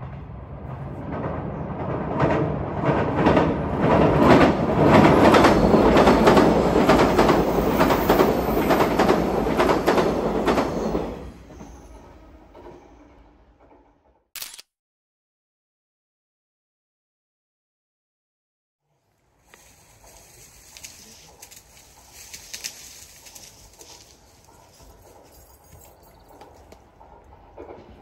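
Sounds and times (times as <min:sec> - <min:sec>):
train rumble on bridge: 0:00.0 - 0:14.3, 0:19.4 - 0:28.0.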